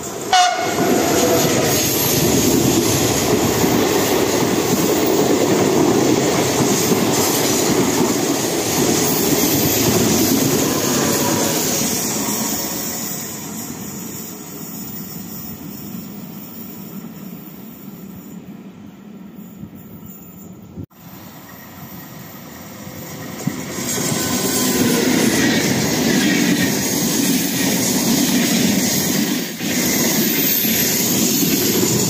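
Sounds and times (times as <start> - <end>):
electric train passing: 0.0 - 32.0
train wheels rumbling on rails: 0.0 - 32.0.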